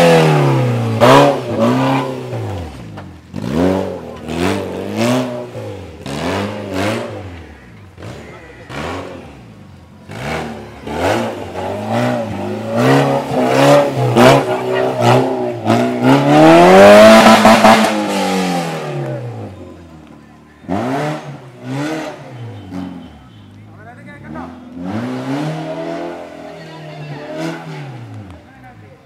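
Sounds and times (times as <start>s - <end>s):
engine revving in bursts: 0.0s - 19.6s, 20.6s - 23.0s, 24.2s - 26.6s.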